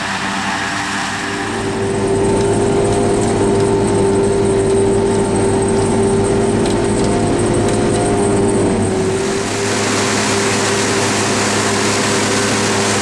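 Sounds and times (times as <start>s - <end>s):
tractor engine and harvester drone: 0.0s - 13.0s.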